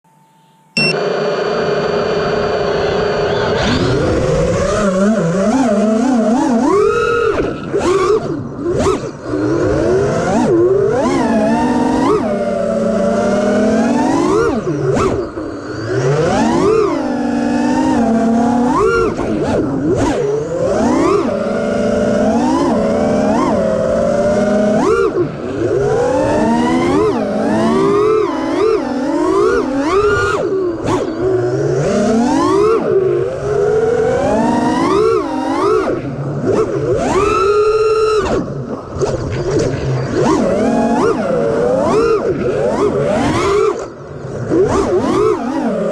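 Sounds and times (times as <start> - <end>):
drone motors whining: 0.1 - 45.9.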